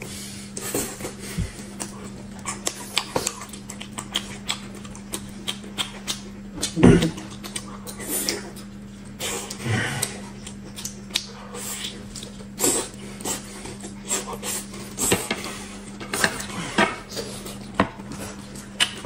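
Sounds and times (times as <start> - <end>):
low steady hum: 0.0 - 19.0
chewing and tearing food: 0.4 - 19.0.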